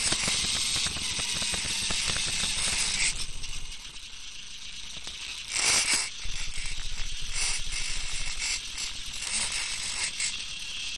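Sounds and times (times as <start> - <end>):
toy car drivetrain rattling and whirring: 0.0 - 10.9.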